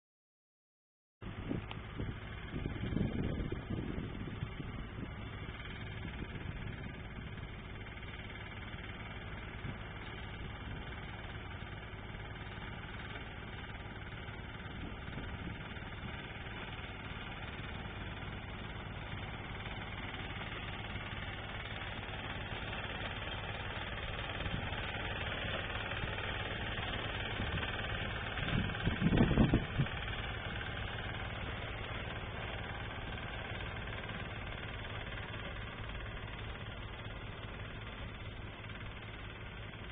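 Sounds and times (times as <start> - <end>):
harvesting machine engine humming: 1.2 - 39.9.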